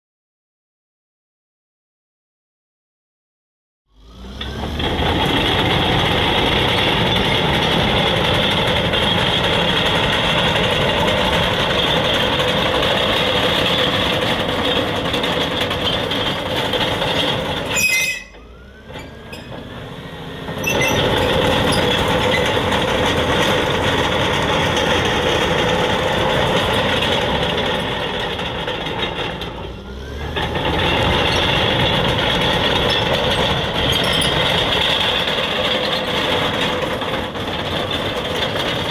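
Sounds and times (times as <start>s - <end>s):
diesel engine running: 3.9s - 38.9s
steel tracks clanking and squealing: 4.4s - 38.9s.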